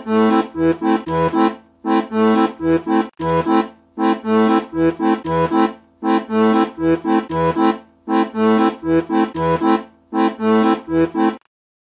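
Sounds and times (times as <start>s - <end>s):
accordion playing: 0.0s - 11.5s.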